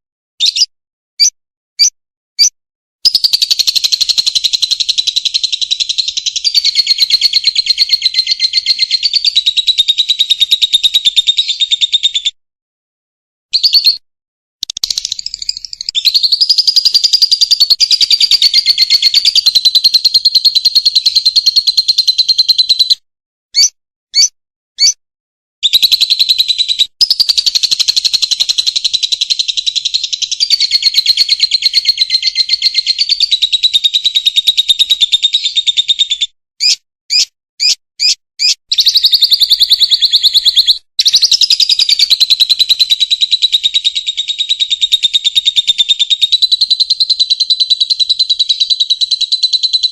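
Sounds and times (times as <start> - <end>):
bird chattering trill: 0.4 - 12.3, 13.6 - 14.0, 14.6 - 23.0, 23.6 - 25.0, 25.6 - 49.9
bird chirps: 0.4 - 12.4, 13.5 - 14.0, 14.6 - 25.0, 25.6 - 49.9.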